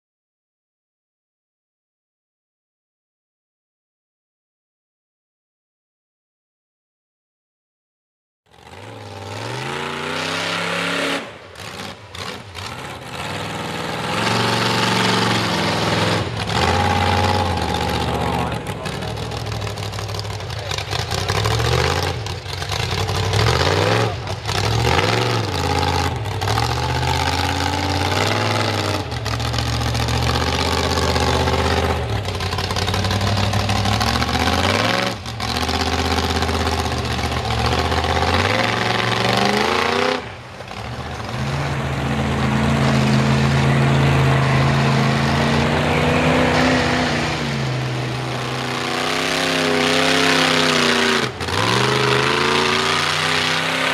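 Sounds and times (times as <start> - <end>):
truck engine revving: 8.5 - 53.9.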